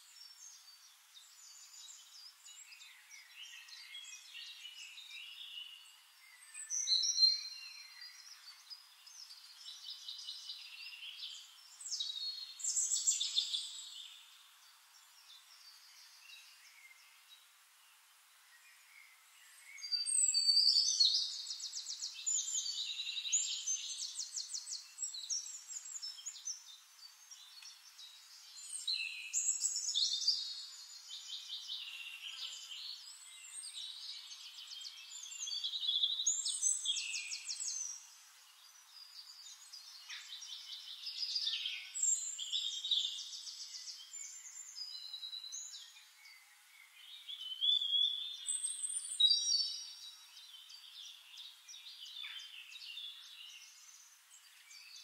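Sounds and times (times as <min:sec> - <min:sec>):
songbirds trilling and whistling: 0:00.0 - 0:55.0.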